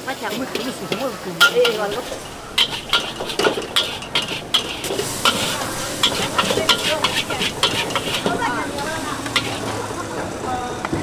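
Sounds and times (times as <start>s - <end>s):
noodles sizzling: 0.2s - 10.8s
metal spatula clanking on a wok: 0.3s - 9.8s.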